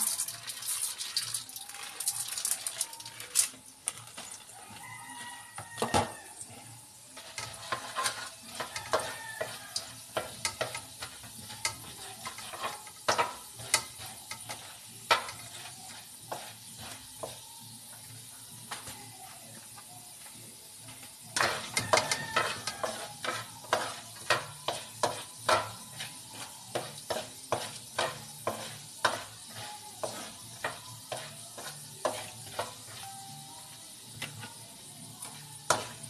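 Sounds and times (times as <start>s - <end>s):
seeds frying in hot oil: 0.0s - 36.0s
spatula scraping a pan: 4.1s - 19.7s, 20.9s - 36.0s.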